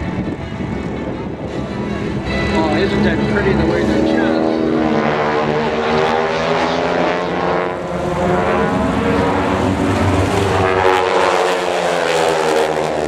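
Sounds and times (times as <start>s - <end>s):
propeller aircraft engines passing: 0.0s - 13.0s.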